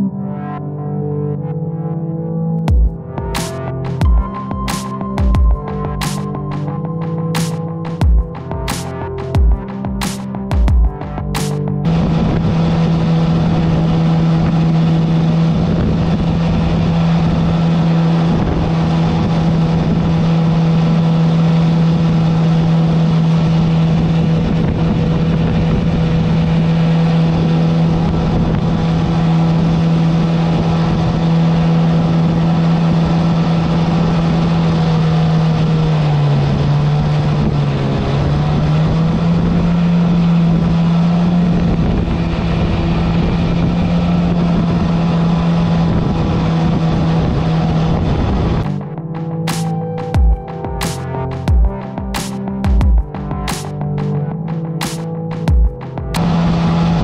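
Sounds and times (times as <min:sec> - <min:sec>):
jet boat engine running: 0:02.6 - 0:57.0.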